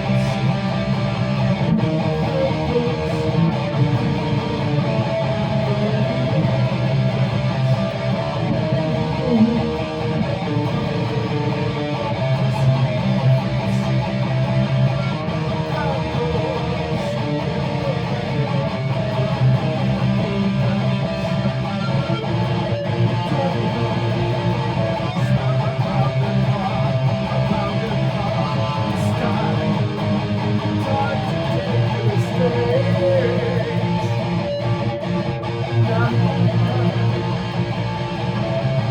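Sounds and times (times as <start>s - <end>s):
guitar playing chords: 0.0s - 38.9s.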